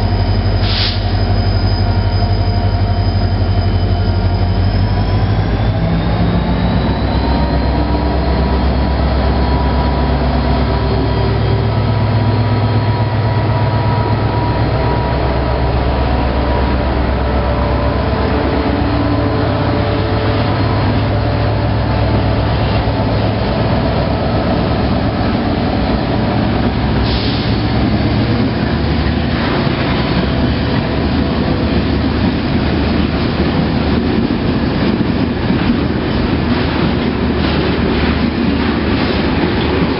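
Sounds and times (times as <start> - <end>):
diesel locomotive engine humming: 0.0 - 39.9
wheels squealing on rails: 0.0 - 39.9.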